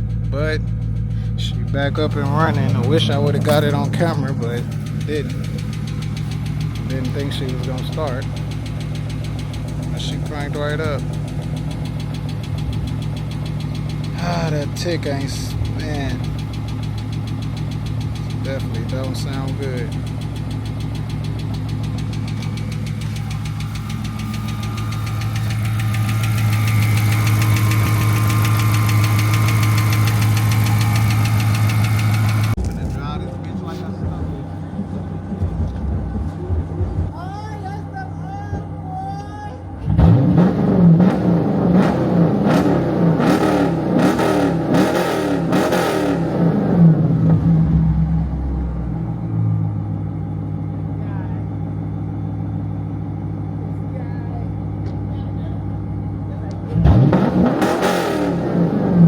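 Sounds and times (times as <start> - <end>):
car engine idling: 0.0 - 59.0
fast even engine ticking: 0.0 - 59.0.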